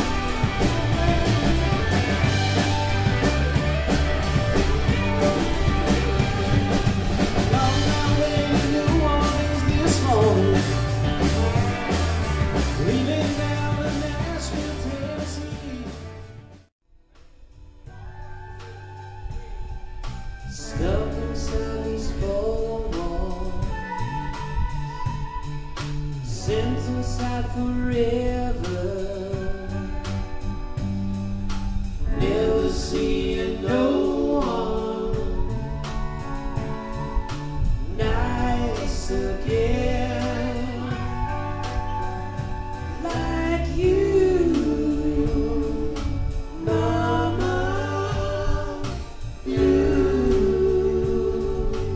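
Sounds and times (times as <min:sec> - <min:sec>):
person singing: 0:00.0 - 0:16.0, 0:17.9 - 0:30.6, 0:32.1 - 0:51.9
electric guitars: 0:00.0 - 0:16.7, 0:17.9 - 0:51.9
drum kit: 0:00.0 - 0:17.3, 0:17.9 - 0:51.9.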